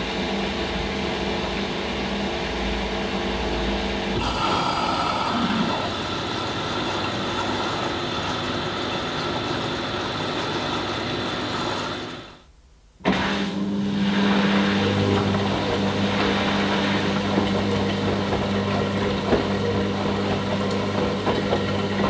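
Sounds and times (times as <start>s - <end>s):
washing machine motor hum: 0.0s - 12.4s, 13.2s - 22.0s.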